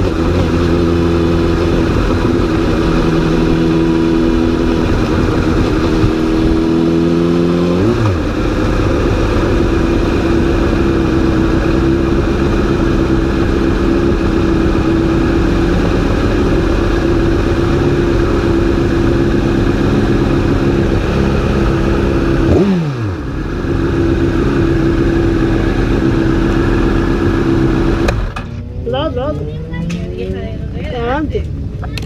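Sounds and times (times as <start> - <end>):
motorcycle engine idling: 0.0 - 29.5
engine revving: 0.0 - 31.3.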